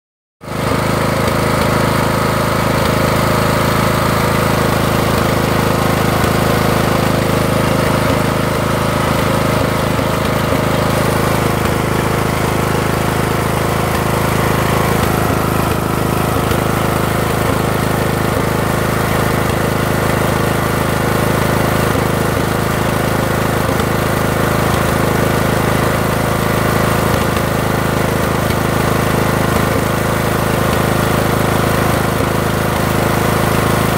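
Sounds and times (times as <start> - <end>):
mower engine running: 0.4 - 33.9.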